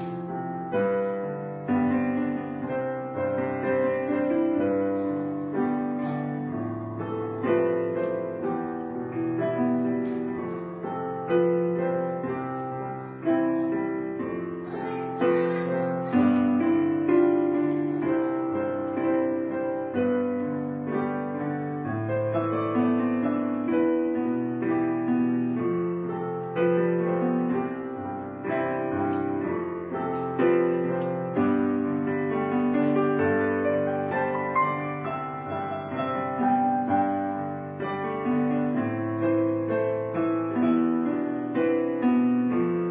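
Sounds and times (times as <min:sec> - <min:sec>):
solo piano music: 0:00.0 - 0:42.9.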